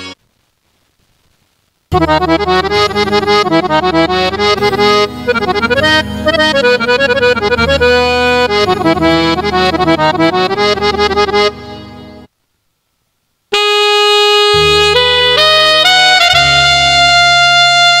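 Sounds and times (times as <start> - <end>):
keyboard playing accordion melody: 1.9 - 12.3, 13.6 - 18.0.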